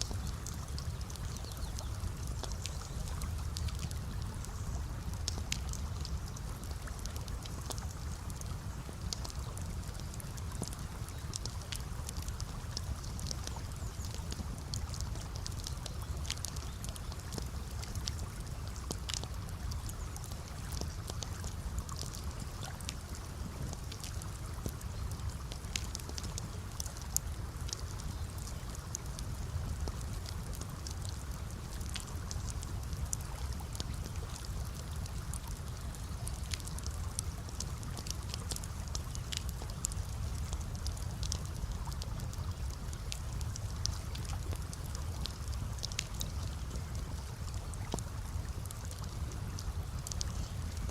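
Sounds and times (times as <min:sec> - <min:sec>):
campfire crackling and popping: 0:00.0 - 0:50.9
water flowing gently: 0:00.0 - 0:50.9.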